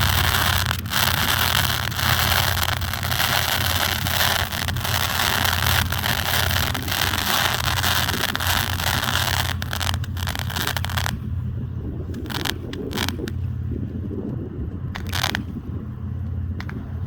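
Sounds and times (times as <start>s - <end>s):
fireworks crackling and popping: 0.0s - 11.4s, 12.1s - 13.4s, 15.0s - 15.6s, 16.6s - 16.9s
steady low hum: 0.0s - 17.0s.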